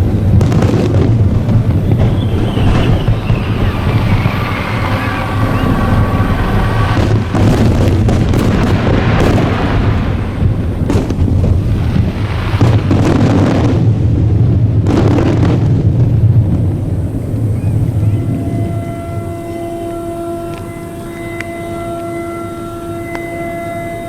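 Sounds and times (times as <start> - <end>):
fireworks bangs: 0.0 - 22.3
low rumble: 0.0 - 24.0.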